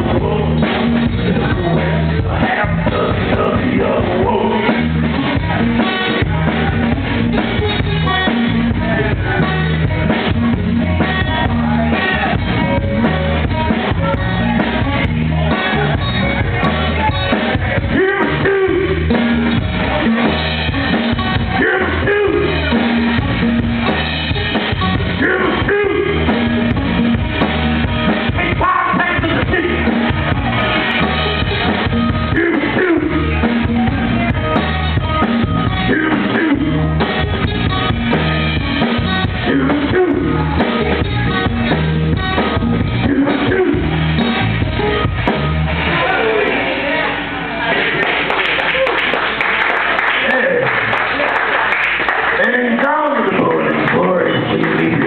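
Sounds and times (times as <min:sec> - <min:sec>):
drum kit: 0:00.0 - 0:52.4
bass line: 0:00.0 - 0:55.0.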